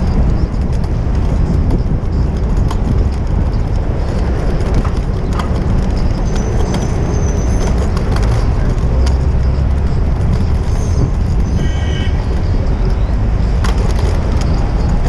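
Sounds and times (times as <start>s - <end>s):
bike rattling clicks: 0.0s - 11.6s, 12.2s - 15.0s
traffic: 0.0s - 15.0s
wind buffeting microphone: 0.0s - 15.0s.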